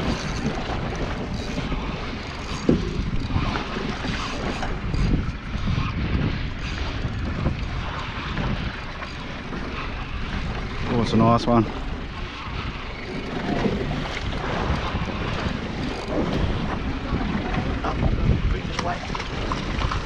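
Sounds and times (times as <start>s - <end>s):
sea washing: 0.0s - 20.0s
wind buffeting microphone: 0.0s - 20.0s.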